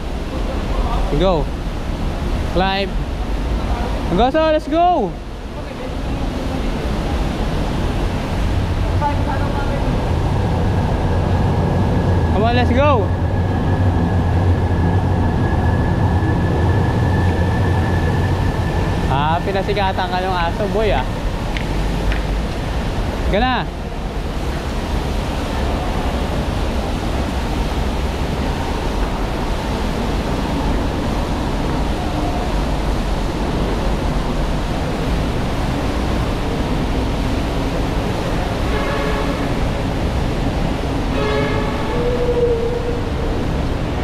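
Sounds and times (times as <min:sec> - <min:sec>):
high whine: 0:00.0 - 0:44.0
low mechanical rumble: 0:00.0 - 0:44.0.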